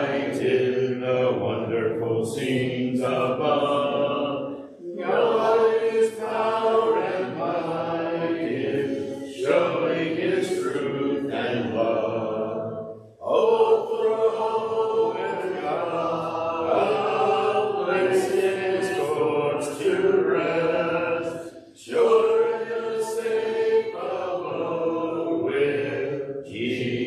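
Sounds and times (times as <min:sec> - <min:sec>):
congregation singing a hymn: 0:00.0 - 0:27.0.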